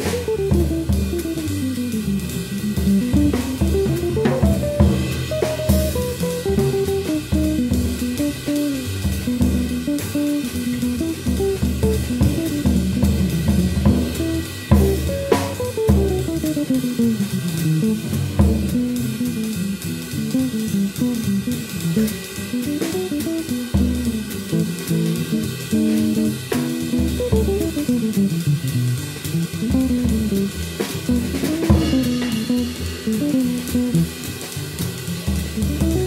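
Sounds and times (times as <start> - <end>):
drum kit with sticks: 0.0 - 36.0
electric guitar lines: 0.0 - 36.0
walking double bass: 0.0 - 36.0.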